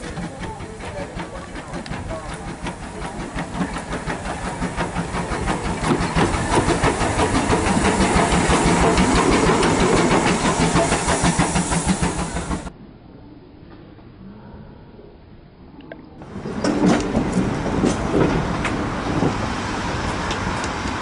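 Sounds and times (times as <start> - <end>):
steam locomotive passing: 0.0 - 12.7, 16.2 - 21.0.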